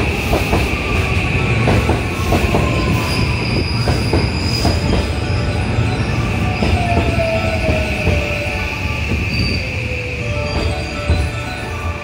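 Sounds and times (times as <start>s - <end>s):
train low rumble: 0.0s - 12.0s
train wheels squealing: 0.0s - 12.0s.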